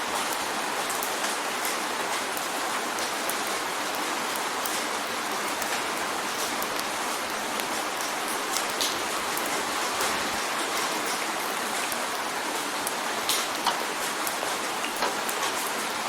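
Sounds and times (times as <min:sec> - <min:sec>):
rain drumming on a window: 0:00.0 - 0:16.0.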